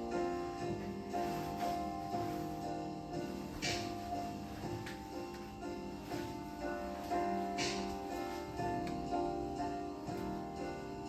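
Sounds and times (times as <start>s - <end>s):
soft plucked string and keyboard music: 0.0s - 11.0s.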